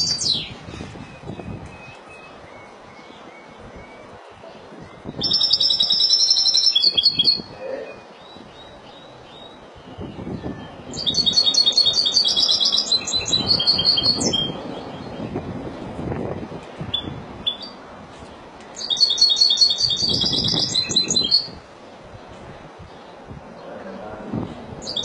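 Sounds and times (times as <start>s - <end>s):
finch twittering song: 0.0s - 15.6s, 16.9s - 21.6s, 24.8s - 25.0s.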